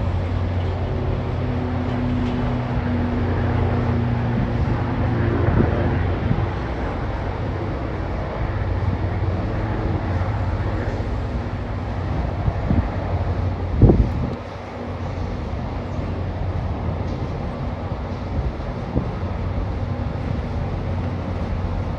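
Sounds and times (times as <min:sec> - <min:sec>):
low engine hum: 0:00.0 - 0:21.9.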